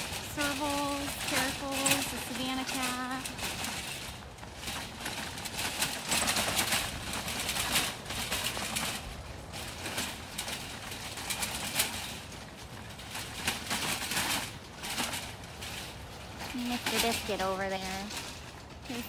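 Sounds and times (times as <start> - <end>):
cart rattling: 0.0 - 19.0
cart wheels crunching on gravel: 0.0 - 19.0
footsteps: 0.0 - 19.0.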